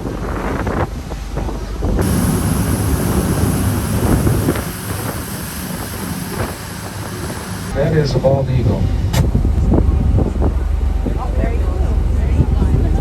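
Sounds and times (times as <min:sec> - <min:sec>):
boat running at speed: 0:00.0 - 0:13.0
wind buffeting microphone: 0:00.0 - 0:13.0.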